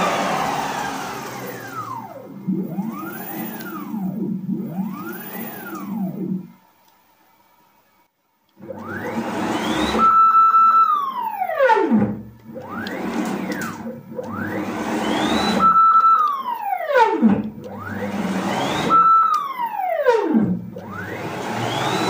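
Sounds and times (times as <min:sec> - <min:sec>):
stepper motor whine: 0:00.0 - 0:06.7, 0:08.5 - 0:22.0
low mechanical rumble: 0:00.0 - 0:22.0.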